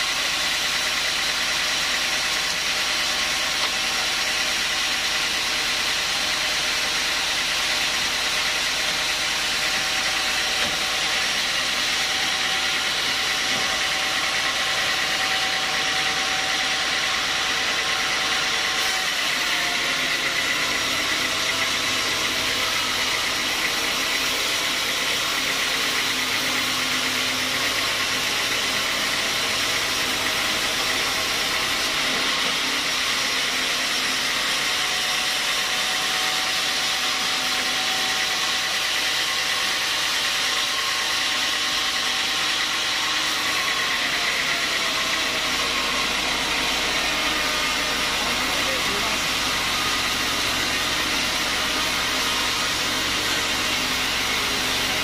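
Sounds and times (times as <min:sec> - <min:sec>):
band sawmill running: 0:00.0 - 0:55.0.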